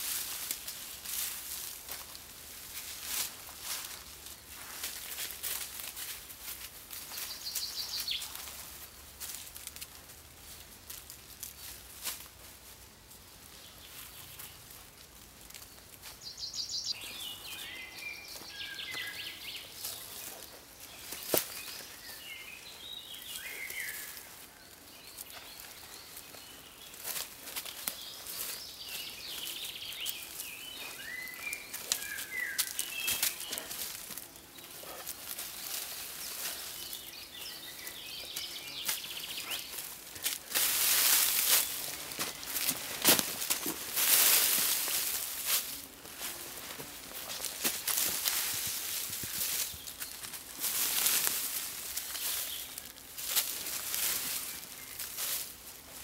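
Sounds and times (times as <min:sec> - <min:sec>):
songbirds singing: 0:00.0 - 0:10.0, 0:13.2 - 0:56.0
dry leaves rustling and crackling: 0:00.0 - 0:56.0.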